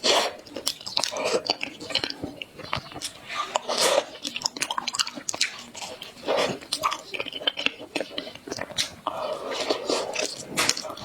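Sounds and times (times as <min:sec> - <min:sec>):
person chewing food: 0:00.0 - 0:11.0
wet mouth clicks: 0:00.0 - 0:11.0.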